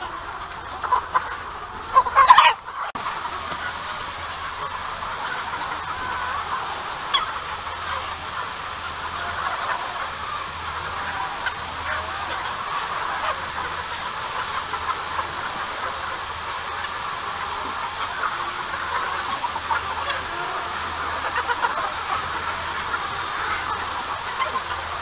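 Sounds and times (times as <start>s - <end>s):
chickens cheeping and clucking: 0.0s - 25.0s.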